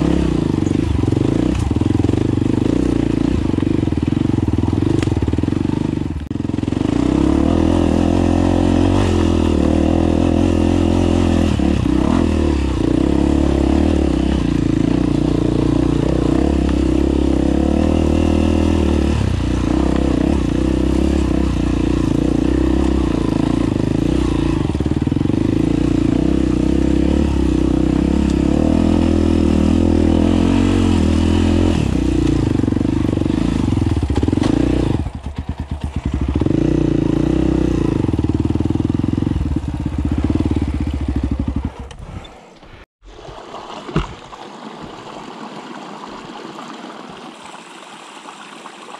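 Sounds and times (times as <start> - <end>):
dirt bike engine running: 0.0 - 42.2.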